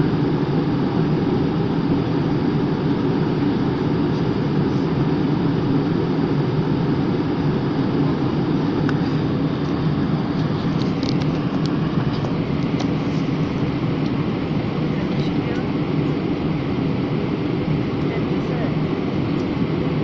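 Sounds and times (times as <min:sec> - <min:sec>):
airliner cabin engine rush: 0:00.0 - 0:20.0.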